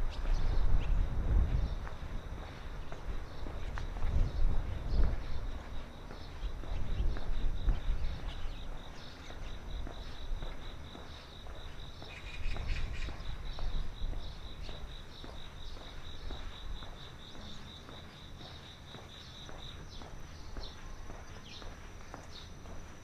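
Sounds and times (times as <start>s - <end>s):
faint footsteps: 0.0s - 23.0s
insect chirping in pulsed trill: 0.0s - 23.0s.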